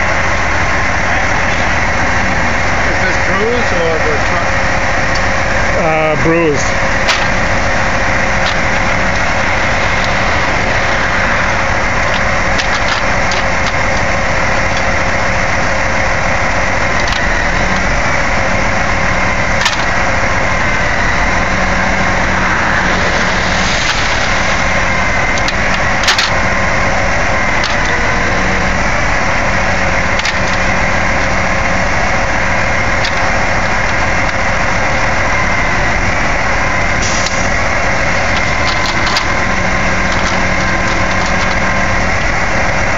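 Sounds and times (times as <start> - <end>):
truck engine running under load: 0.0 - 42.9.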